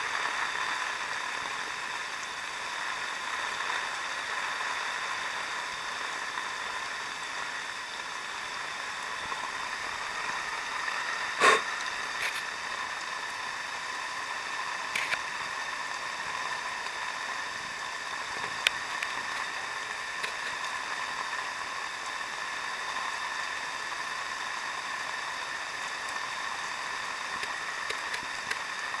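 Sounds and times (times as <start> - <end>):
heavy rain downpour: 0.0 - 29.0.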